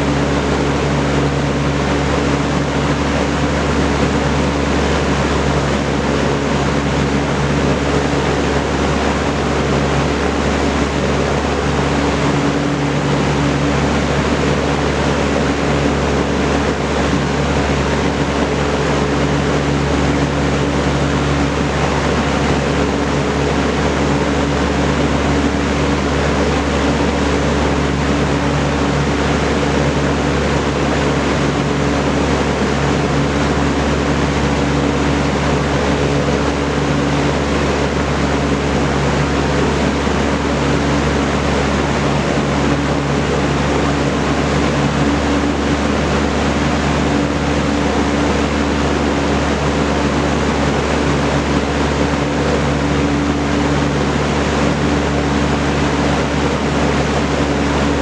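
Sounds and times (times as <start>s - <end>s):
box fan running: 0.0s - 58.0s.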